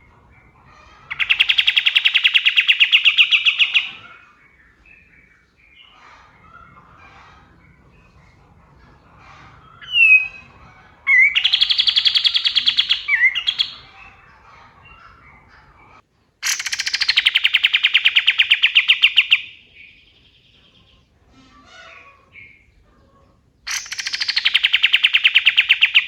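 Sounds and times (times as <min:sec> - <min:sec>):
faint chirps of other birds: 0:00.0 - 0:26.0.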